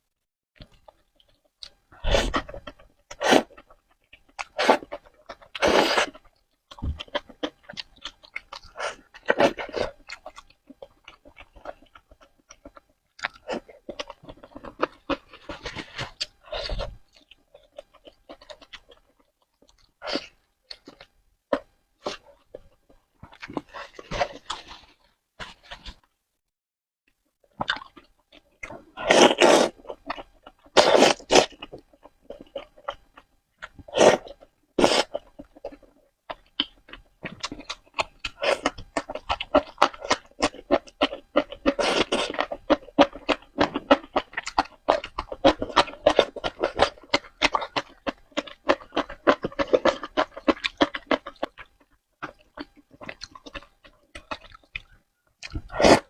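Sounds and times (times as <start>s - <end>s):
wet chewing with mouth clicks: 0.6s - 26.0s, 27.5s - 56.0s.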